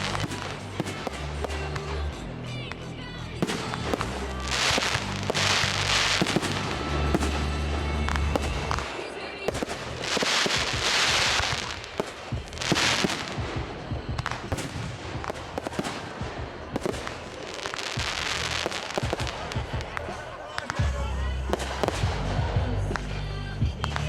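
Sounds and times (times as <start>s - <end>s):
fireworks bangs: 0.0s - 24.0s
fireworks crackling: 0.0s - 24.0s
music: 0.0s - 24.0s.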